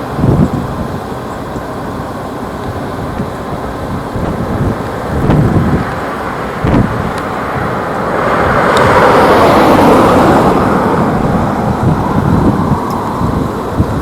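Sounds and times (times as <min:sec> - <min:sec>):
jet engine noise: 0:00.0 - 0:14.0
wind buffeting microphone: 0:00.0 - 0:14.0.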